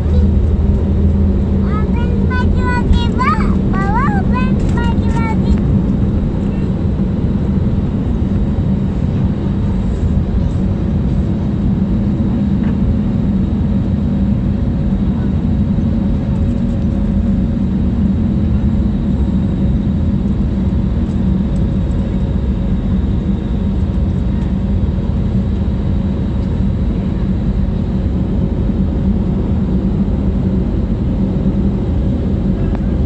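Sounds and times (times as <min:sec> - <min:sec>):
aeroplane engines droning: 0:00.0 - 0:33.0.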